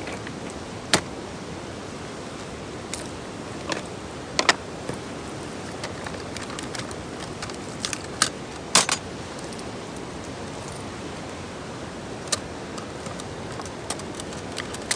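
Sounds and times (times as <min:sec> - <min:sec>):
steady hiss: 0:00.0 - 0:14.9
campfire crackling: 0:02.3 - 0:14.9.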